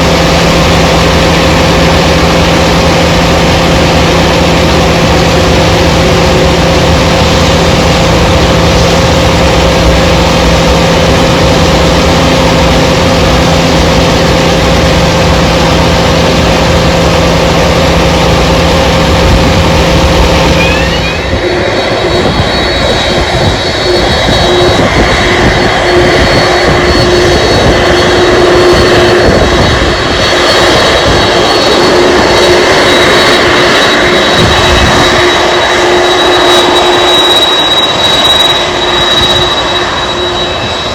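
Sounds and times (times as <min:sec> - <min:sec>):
high jet engine whine: 0:00.0 - 0:40.9
jet engines running: 0:00.0 - 0:40.9.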